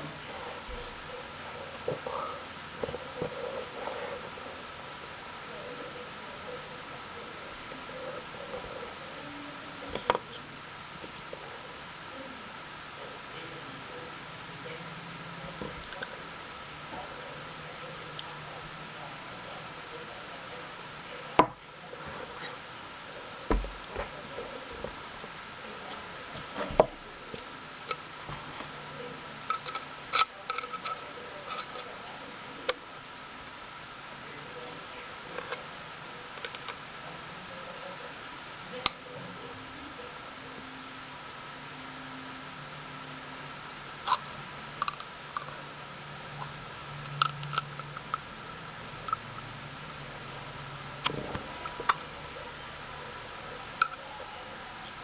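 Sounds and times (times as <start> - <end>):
faint high hum: 0.0 - 55.0.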